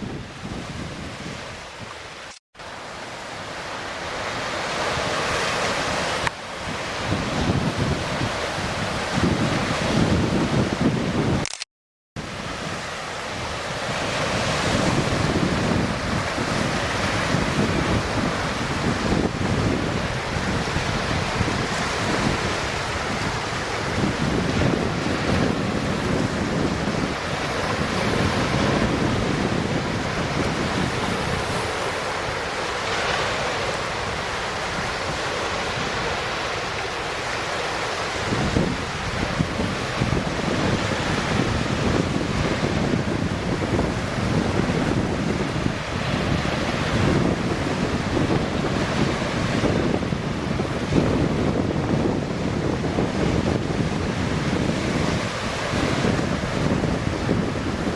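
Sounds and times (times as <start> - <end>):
wind buffeting microphone: 0.0 - 2.2, 4.3 - 11.5, 12.2 - 36.5, 38.0 - 57.9.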